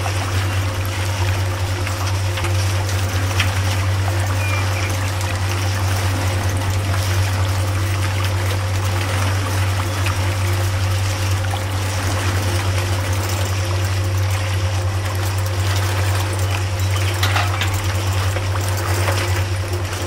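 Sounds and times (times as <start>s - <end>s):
juice press motor hum: 0.0s - 20.0s.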